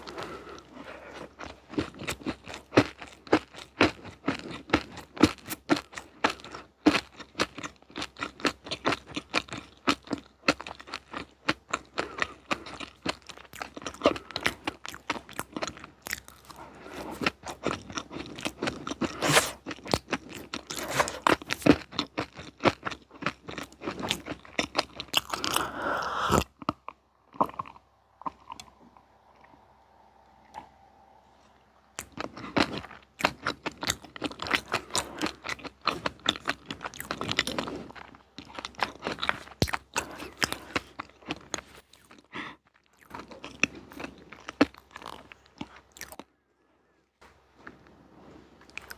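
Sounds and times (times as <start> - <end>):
chewing crunchy snacks: 0.0 - 30.8, 31.4 - 48.9.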